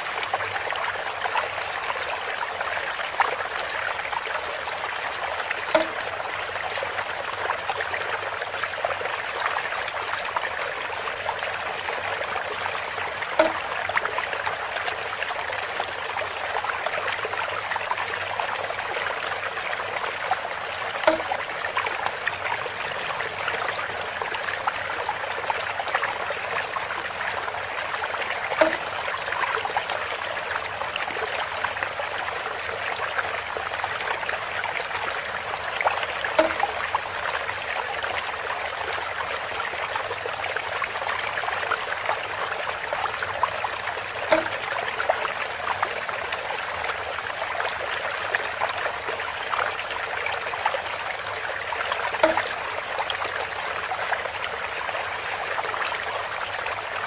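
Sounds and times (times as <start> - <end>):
water trickling through bamboo spout: 0.0 - 57.0.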